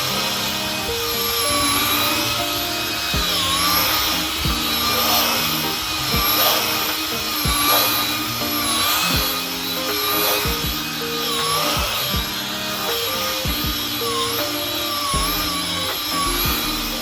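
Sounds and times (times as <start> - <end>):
background music with steady beat: 0.0 - 17.0
power tool motor whining: 0.0 - 17.0.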